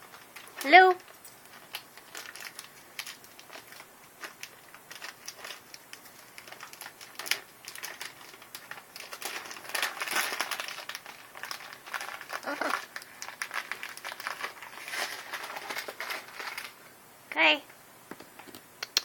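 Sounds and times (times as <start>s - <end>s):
light crinkling rustles: 0.0s - 16.8s.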